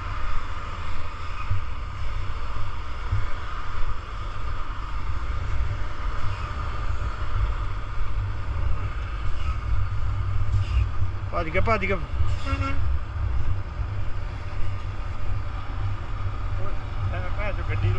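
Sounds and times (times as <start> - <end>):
truck engine rumbling: 0.0 - 17.9.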